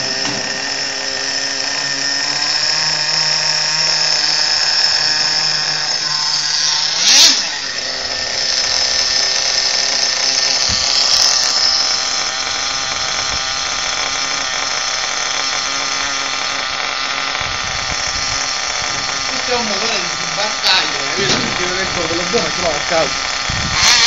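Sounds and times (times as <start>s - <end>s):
small engine high-pitched buzz: 0.0s - 24.0s.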